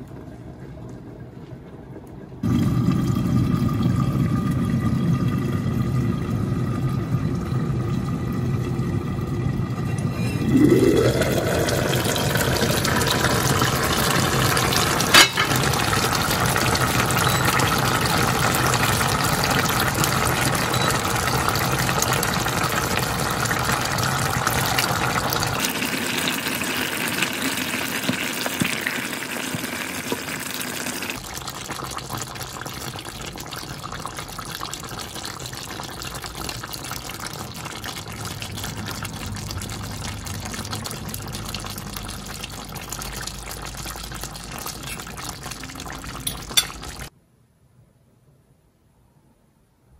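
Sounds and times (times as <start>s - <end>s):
water flowing: 2.4s - 47.1s.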